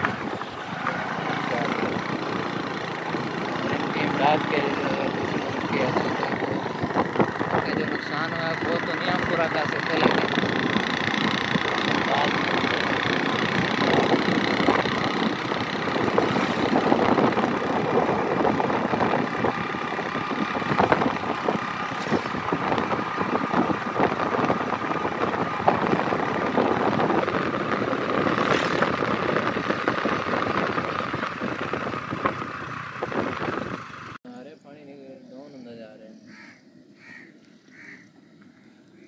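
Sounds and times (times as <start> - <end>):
vehicle engine running: 0.0 - 34.2
rumbling road noise: 0.0 - 39.0.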